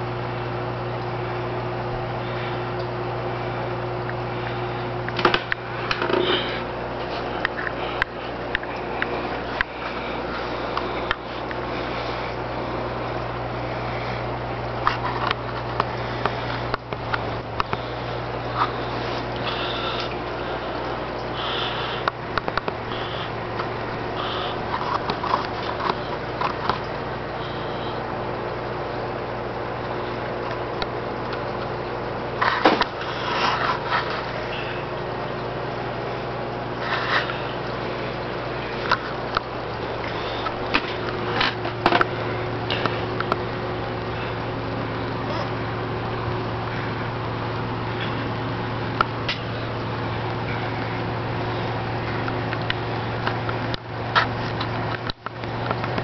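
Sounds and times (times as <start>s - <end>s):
aquarium pumps humming: 0.0s - 56.0s.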